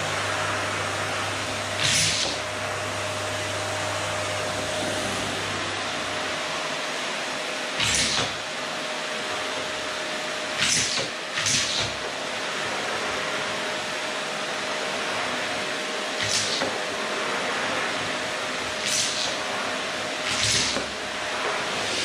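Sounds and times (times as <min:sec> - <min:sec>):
vacuum cleaner running: 0:00.0 - 0:22.0
vacuum nozzle on wooden floor: 0:00.0 - 0:22.0.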